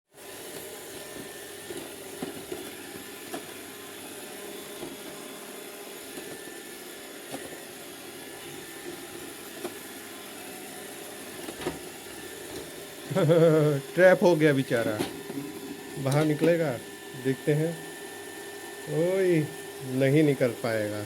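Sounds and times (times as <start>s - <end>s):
robot vacuum motor hum: 0.2s - 21.0s.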